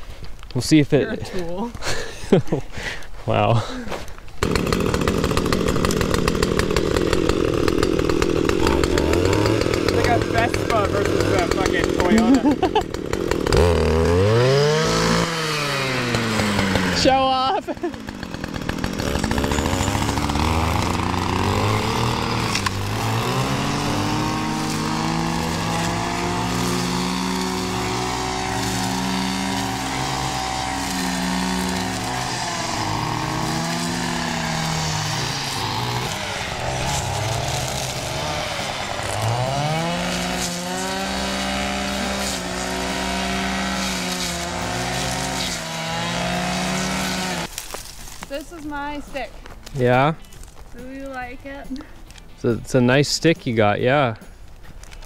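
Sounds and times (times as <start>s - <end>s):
brush cutters running: 1.0s - 3.0s, 3.6s - 55.0s.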